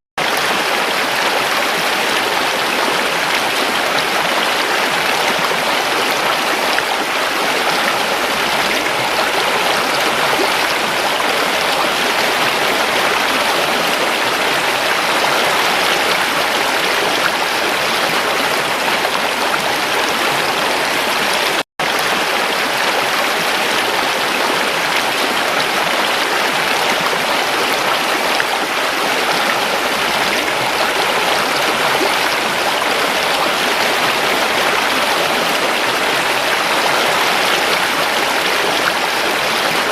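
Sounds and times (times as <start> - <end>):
creek water running over rocks: 0.2 - 39.9.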